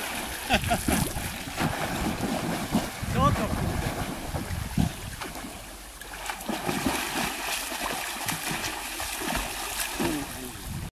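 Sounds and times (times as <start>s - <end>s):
swimmer's strokes churning water: 0.0s - 10.9s
water splashing and sloshing: 0.0s - 10.9s.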